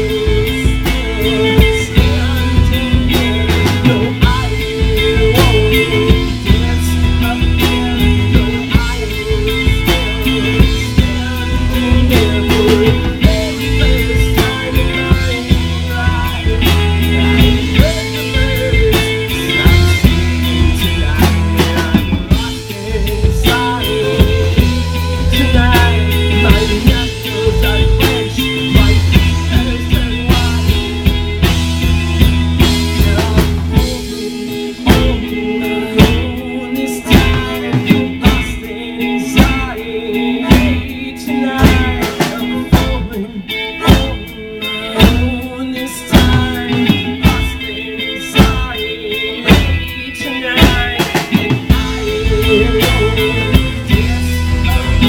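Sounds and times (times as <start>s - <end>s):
heavy held bass: 0.0s - 55.0s
live rock band playing: 0.0s - 55.0s.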